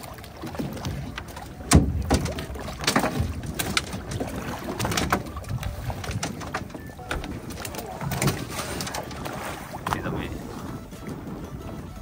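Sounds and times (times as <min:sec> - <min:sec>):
knocks and clatter on boat: 0:00.0 - 0:12.0.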